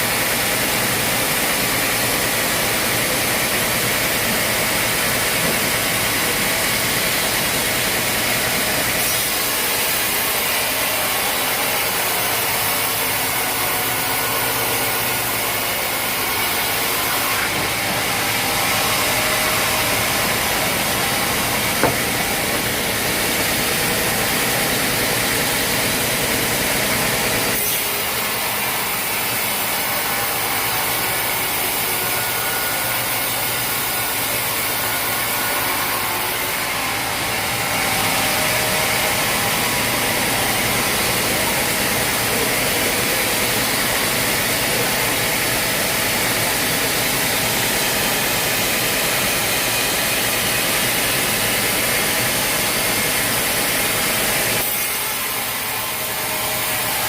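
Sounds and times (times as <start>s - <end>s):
power saw cutting log: 0.0s - 57.0s
sawmill machinery running: 0.0s - 57.0s.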